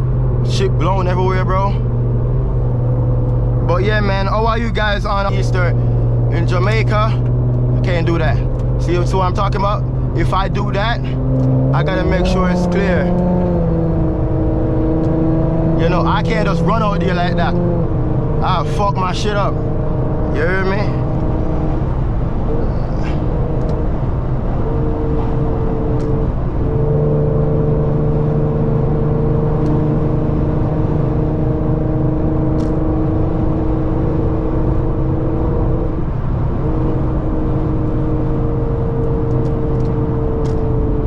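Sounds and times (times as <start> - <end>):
car engine droning: 0.0 - 41.0
road and wind noise: 0.0 - 41.0.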